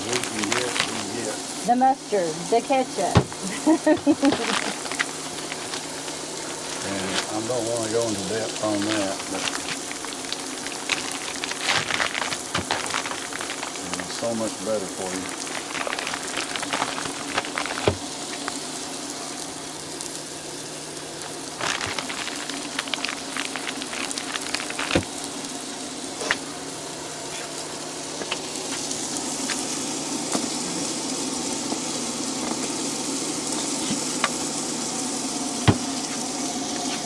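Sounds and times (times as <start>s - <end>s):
eggs sizzling in skillet: 0.0s - 37.0s.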